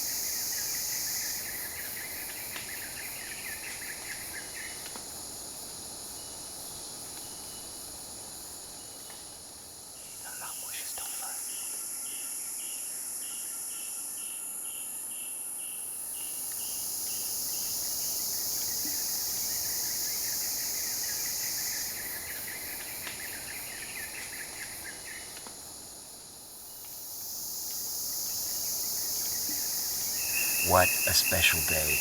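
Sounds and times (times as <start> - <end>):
pulsed insect call: 0.0 - 25.8, 26.4 - 32.0.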